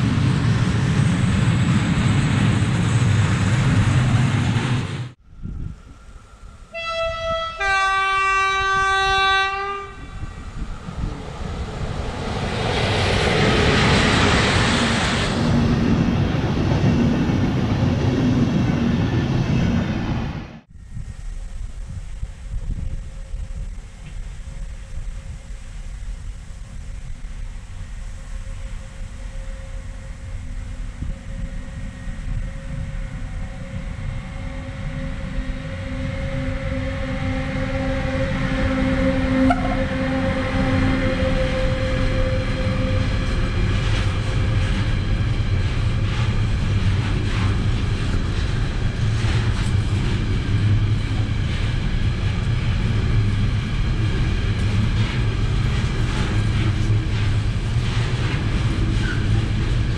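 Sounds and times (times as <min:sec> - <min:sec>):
locomotive steady tone: 0:00.0 - 0:59.9.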